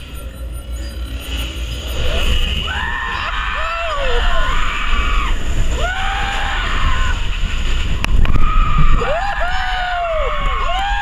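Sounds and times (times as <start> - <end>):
low rumble: 0.0 - 11.0
voices screaming: 2.0 - 11.0.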